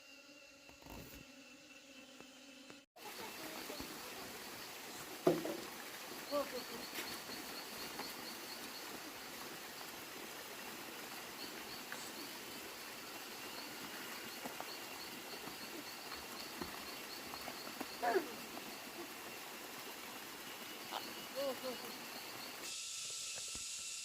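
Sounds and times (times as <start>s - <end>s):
background hiss: 3.0s - 24.0s
insect chirping: 3.0s - 24.0s.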